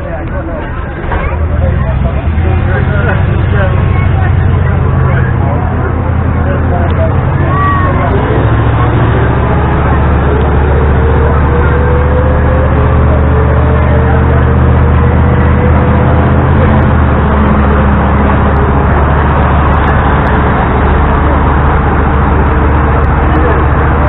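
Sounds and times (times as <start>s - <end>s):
bus engine drone from inside: 0.0s - 24.0s.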